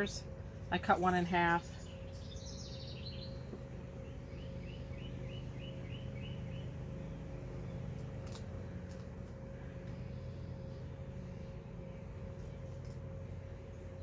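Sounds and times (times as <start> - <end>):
songbird singing: 0.0 - 14.0
steady low hum: 0.0 - 14.0.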